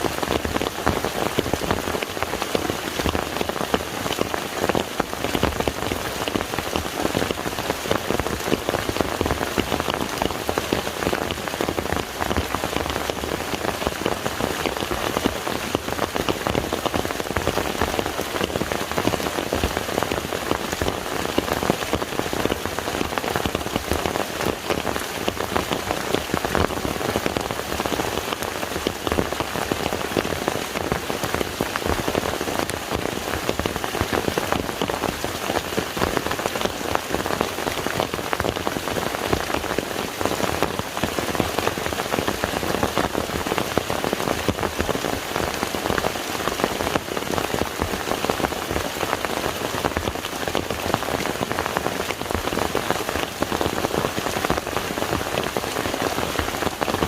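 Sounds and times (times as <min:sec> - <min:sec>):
rain falling on lake water: 0:00.0 - 0:57.0.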